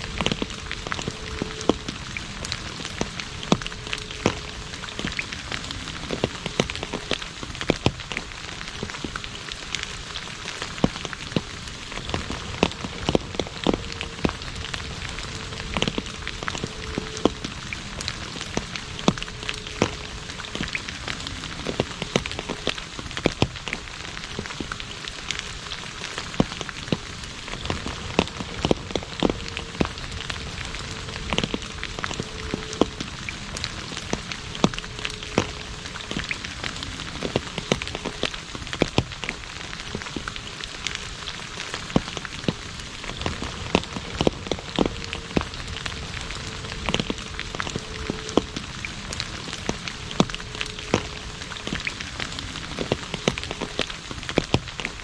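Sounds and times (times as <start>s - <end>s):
rain falling on asphalt: 0.0s - 55.0s.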